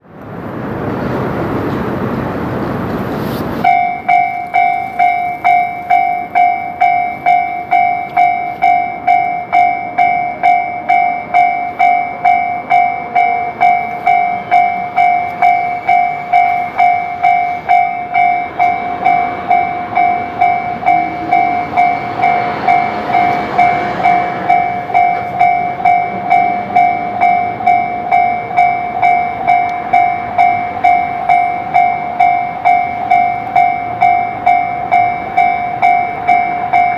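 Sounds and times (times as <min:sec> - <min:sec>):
level crossing warning bell: 0:03.6 - 0:36.9.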